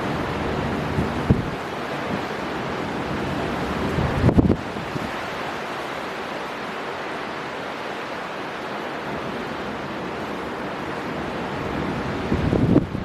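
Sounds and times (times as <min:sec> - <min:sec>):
storm wind: 0:00.0 - 0:13.0
surf rushing: 0:00.0 - 0:13.0.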